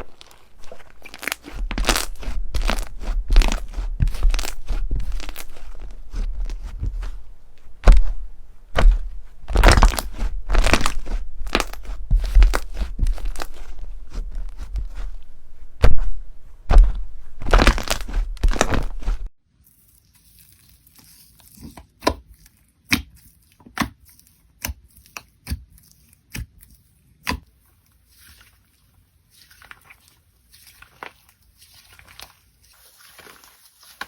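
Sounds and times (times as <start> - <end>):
slime crunching and crackling: 0.0 - 34.0.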